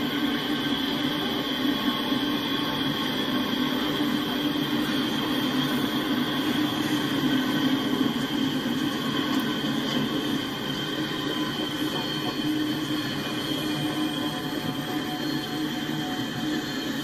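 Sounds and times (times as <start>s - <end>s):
steel wheels rolling on rails: 0.0s - 17.0s.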